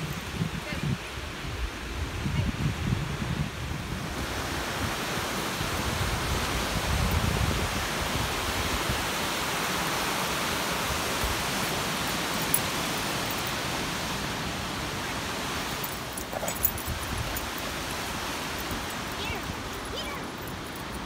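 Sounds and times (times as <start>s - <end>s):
waves breaking on sandy beach: 3.2s - 21.0s.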